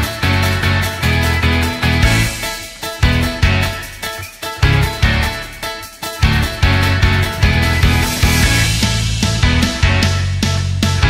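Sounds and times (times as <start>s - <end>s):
music with beat and bass: 0.0s - 11.0s.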